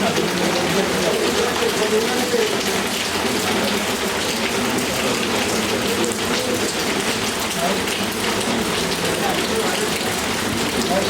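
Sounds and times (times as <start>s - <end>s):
rain hiss and patter: 0.0s - 11.0s.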